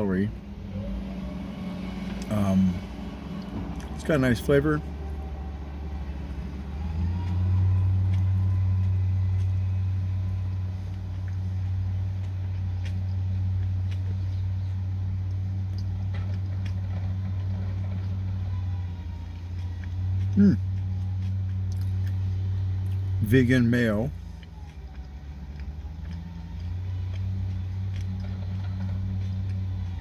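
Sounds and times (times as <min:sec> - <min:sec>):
vehicle low hum: 0:00.0 - 0:30.0.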